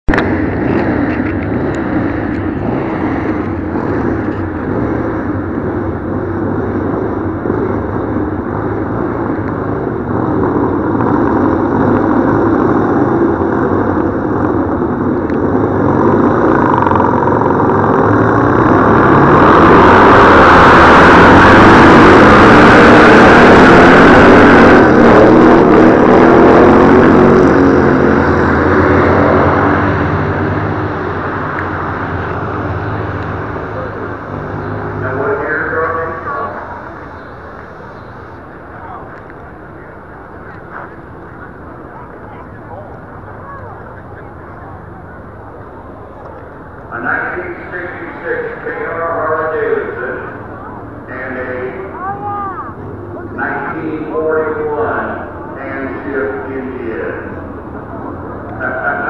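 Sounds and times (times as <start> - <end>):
racing motorcycle engines: 0.1 - 59.0.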